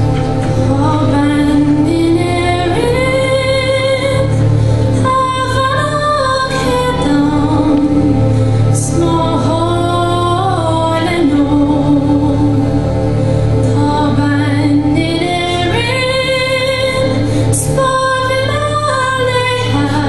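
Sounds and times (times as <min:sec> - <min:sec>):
girl singing slow melody: 0:00.0 - 0:20.0
low steady accompaniment: 0:00.0 - 0:20.0.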